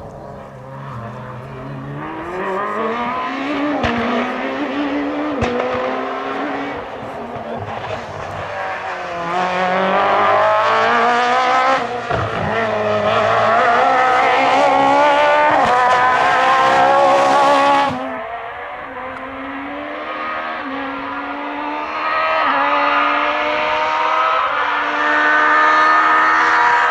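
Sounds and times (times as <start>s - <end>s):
rally car engine accelerating: 0.0s - 26.9s.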